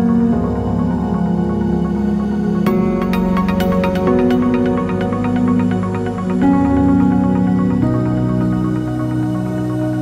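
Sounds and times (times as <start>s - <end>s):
calm electronic ambient music: 0.0s - 10.0s.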